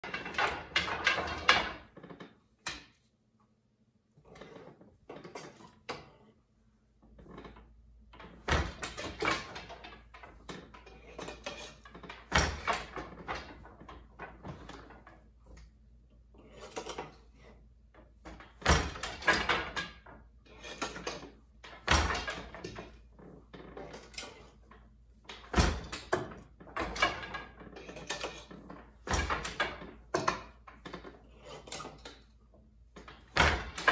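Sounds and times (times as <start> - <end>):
loom beater thudding: 0.0 - 3.0, 7.2 - 15.6, 16.6 - 33.9
wooden shuttles clattering: 0.0 - 3.0, 7.2 - 15.7, 18.0 - 33.9.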